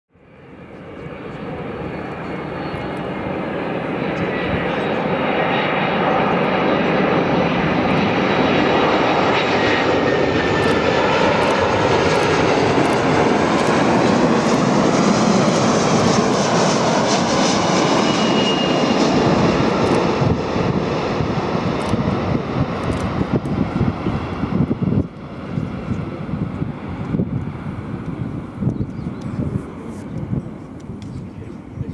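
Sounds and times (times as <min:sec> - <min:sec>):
jet airliner engines rumbling: 0:00.1 - 0:31.9
faint high jet whine: 0:00.2 - 0:31.9.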